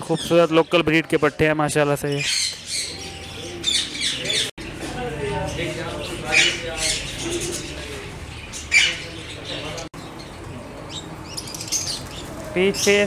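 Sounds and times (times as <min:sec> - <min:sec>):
lovebirds chattering: 0:00.0 - 0:13.0.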